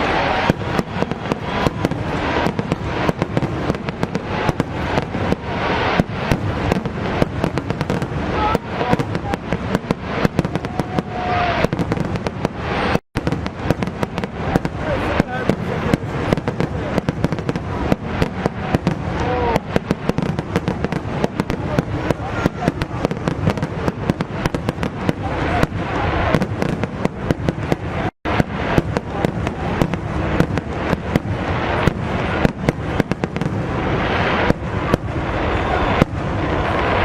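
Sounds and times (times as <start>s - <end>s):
continuous rumbling haze: 0.0s - 37.0s
fireworks bangs and crackles: 0.0s - 37.0s.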